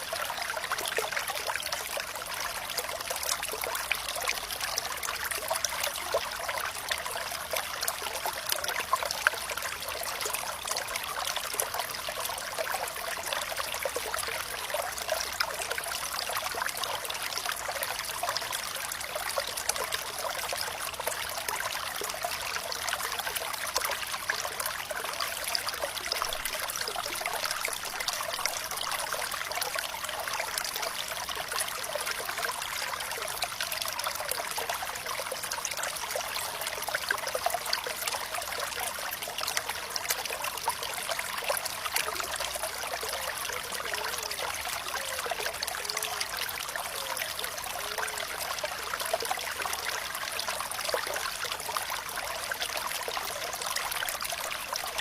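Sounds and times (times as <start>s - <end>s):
water gurgles: 0.0s - 55.0s
water trickling and splashing: 0.0s - 55.0s.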